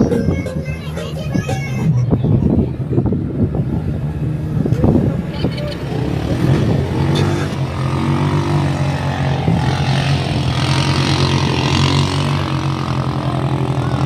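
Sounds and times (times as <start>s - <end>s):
vehicle engine running: 2.4s - 14.0s.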